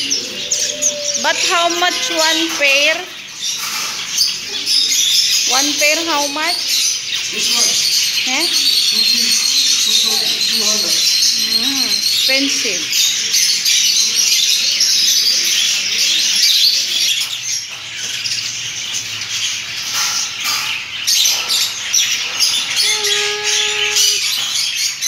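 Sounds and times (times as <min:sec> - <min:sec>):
many small birds chirping: 0:00.0 - 0:25.0.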